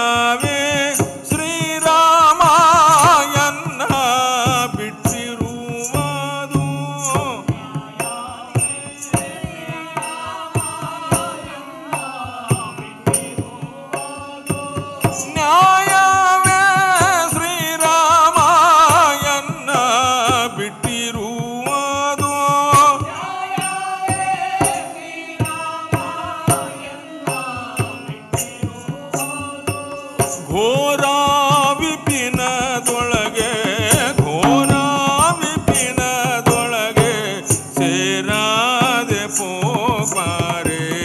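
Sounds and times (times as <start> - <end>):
wavering sung melody: 0.0 - 20.0, 21.2 - 40.6
sharp percussion strokes: 0.0 - 41.0.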